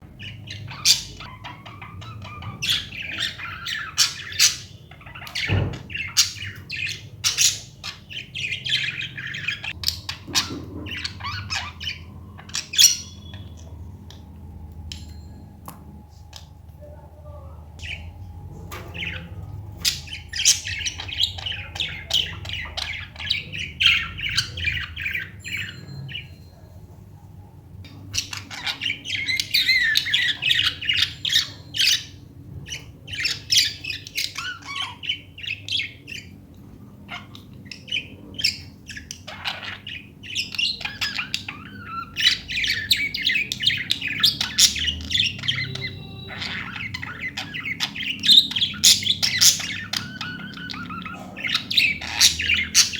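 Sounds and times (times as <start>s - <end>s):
budgerigars chirping and squawking: 0.0s - 52.9s.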